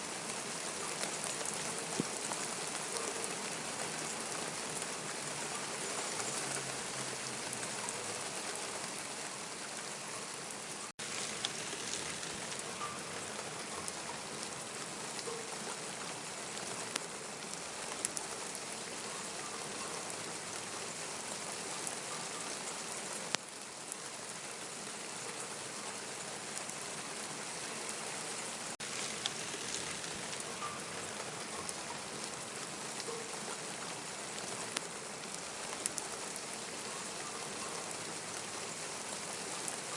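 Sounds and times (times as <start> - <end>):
raindrops striking close by: 0.0 - 39.9
steady rain falling: 0.0 - 39.9.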